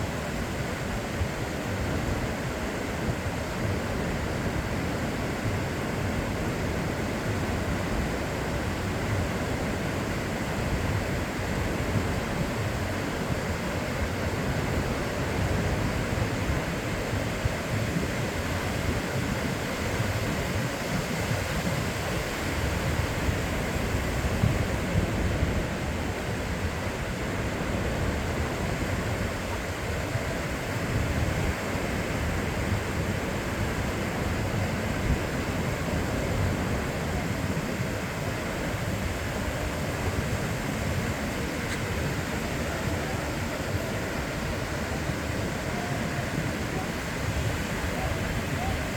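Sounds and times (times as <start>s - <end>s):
ocean surf washing on beach: 0.0s - 48.9s.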